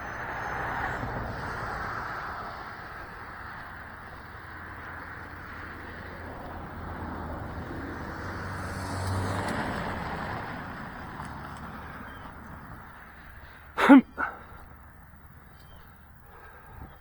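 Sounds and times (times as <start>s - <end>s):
car passing by: 0.0s - 16.6s.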